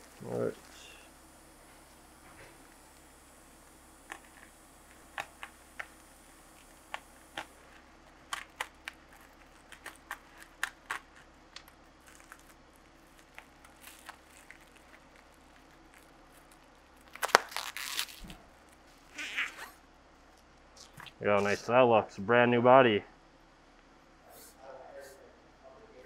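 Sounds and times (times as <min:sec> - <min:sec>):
bubble wrap crinkling and crackling: 0:00.0 - 0:21.7.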